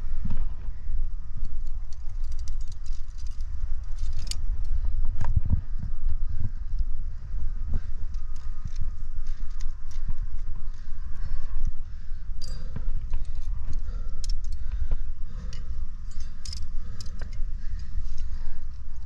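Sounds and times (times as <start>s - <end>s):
climbing gear clinking: 0.0s - 19.0s
low rumble: 0.0s - 19.0s.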